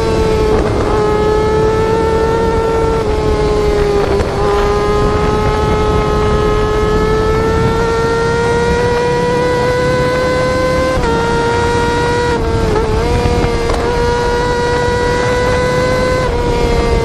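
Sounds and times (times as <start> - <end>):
sport bike engine wailing: 0.0 - 17.0.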